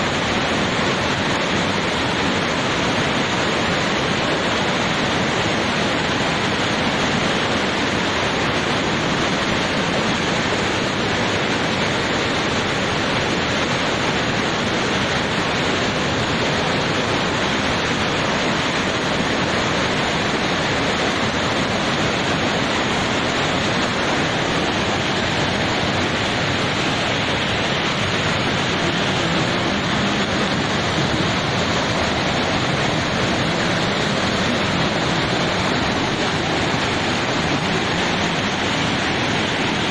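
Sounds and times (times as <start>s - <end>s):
water rushing over boulders: 0.0s - 39.9s.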